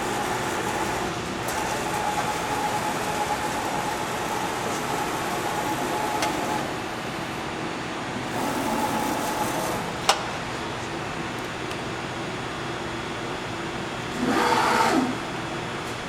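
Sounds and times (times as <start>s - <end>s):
lathe axis drives whining: 0.0s - 10.1s, 13.0s - 15.9s
machine humming: 0.0s - 16.0s.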